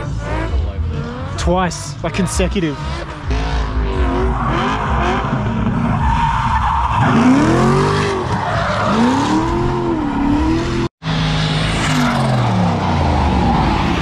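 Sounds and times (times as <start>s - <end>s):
car engine revving hard: 0.0s - 6.0s, 7.0s - 14.0s.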